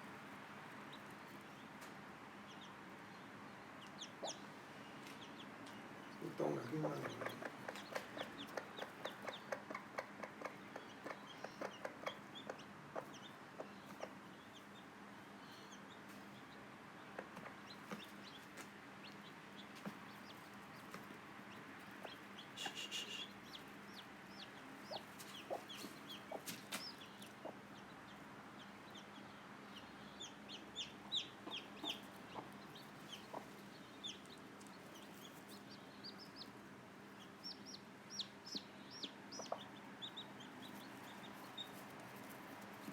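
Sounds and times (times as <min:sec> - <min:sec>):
chicks peeping: 0:00.7 - 0:42.9
hen clucking: 0:03.8 - 0:14.8, 0:16.5 - 0:42.9.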